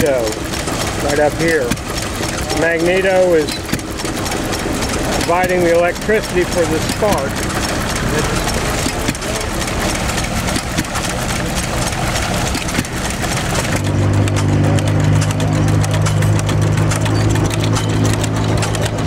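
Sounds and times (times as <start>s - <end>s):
engine low hum: 0.0s - 19.0s
flywheel engine running: 0.0s - 19.0s.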